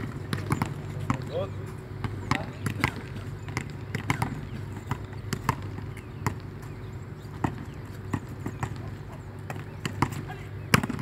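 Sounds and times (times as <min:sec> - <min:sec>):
volleyball slaps and bounces: 0:00.0 - 0:06.5, 0:07.4 - 0:11.0
steady low hum: 0:00.0 - 0:11.0.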